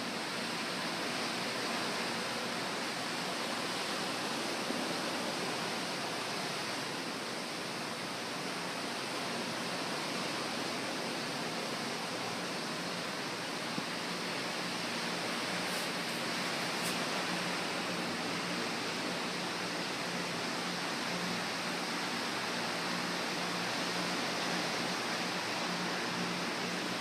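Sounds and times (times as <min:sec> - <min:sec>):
sea surf wash: 0:00.0 - 0:27.0.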